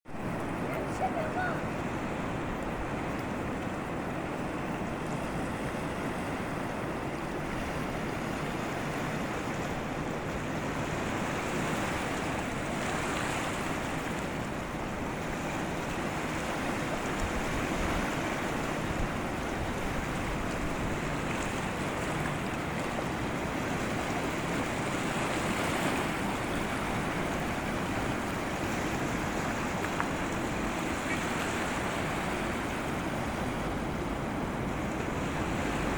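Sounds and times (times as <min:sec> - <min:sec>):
wind: 0:00.0 - 0:35.9
surf washing onto shore: 0:00.1 - 0:35.9.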